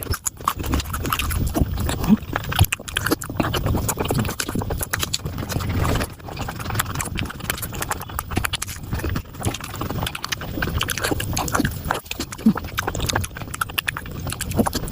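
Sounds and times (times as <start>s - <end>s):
person chewing with wet smacks: 0.0s - 14.9s.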